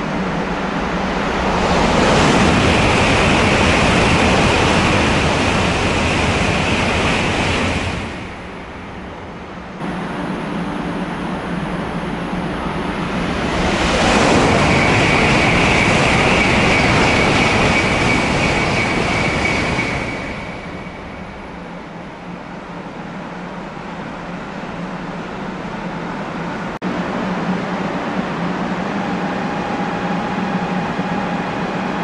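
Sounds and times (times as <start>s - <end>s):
high-speed train rushing past: 0.0s - 32.0s.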